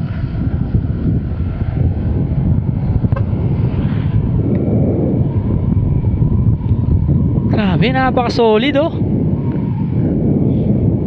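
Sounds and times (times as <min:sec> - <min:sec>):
scooter engine running: 0:00.0 - 0:11.0
wind buffeting microphone: 0:00.0 - 0:11.0.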